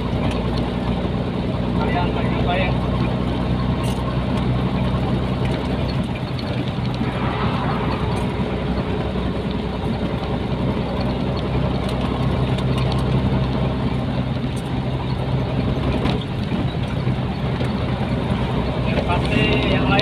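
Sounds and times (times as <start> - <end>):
road noise rushing: 0.0 - 20.0
truck diesel engine running: 0.0 - 20.0.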